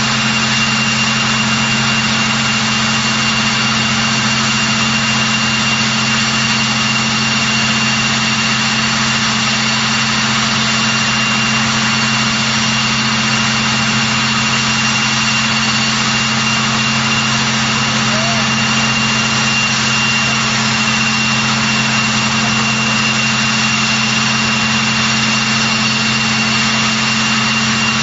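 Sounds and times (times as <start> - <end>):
turboprop engines whining: 0.0 - 28.0.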